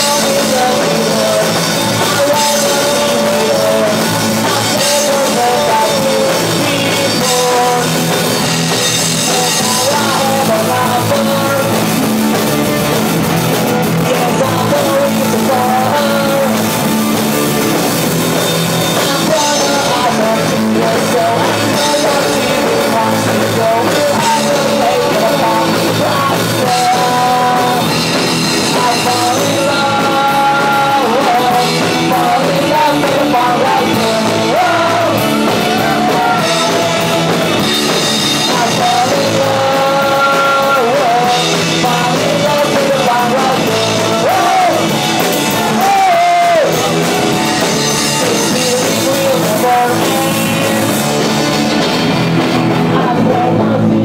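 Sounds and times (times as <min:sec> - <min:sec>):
drum kit: 0:00.0 - 0:54.0
electric guitars: 0:00.0 - 0:54.0
person singing: 0:00.0 - 0:54.0.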